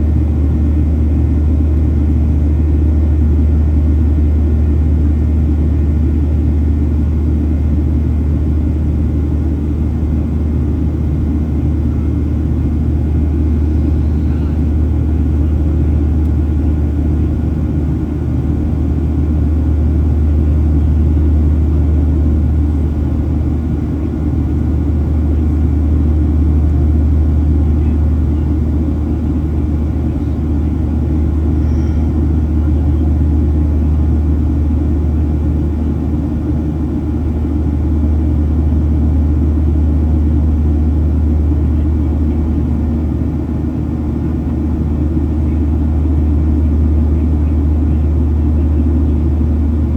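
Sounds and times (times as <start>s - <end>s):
jet engine rumble inside cabin: 0.0s - 49.9s.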